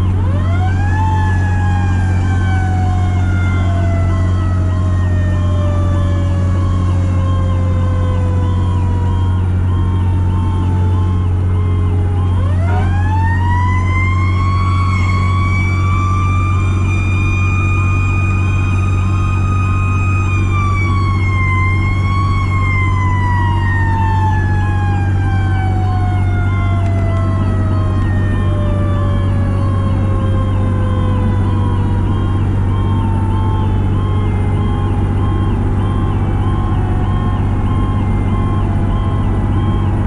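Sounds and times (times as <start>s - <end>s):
mechanical siren wailing: 0.0s - 40.0s
road noise: 0.0s - 40.0s
truck engine drone: 0.0s - 40.0s.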